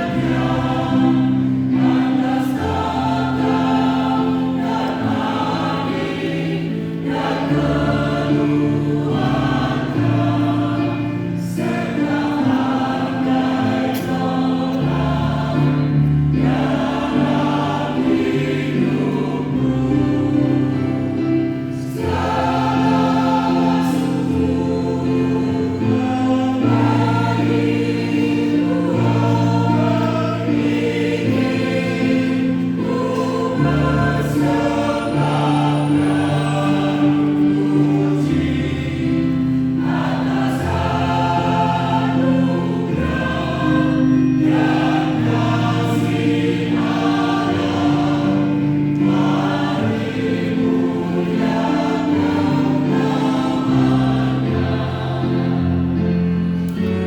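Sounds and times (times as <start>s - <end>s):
choir singing: 0.0s - 57.0s
piano accompaniment: 0.0s - 57.0s.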